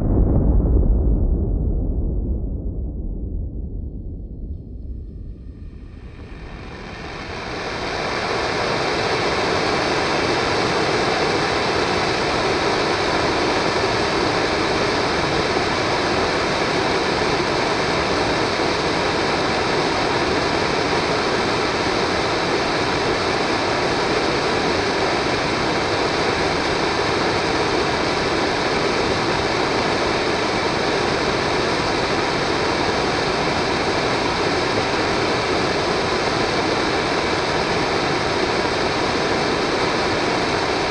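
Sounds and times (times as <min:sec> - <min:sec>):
model rocket engine burning: 0:05.6 - 0:40.9.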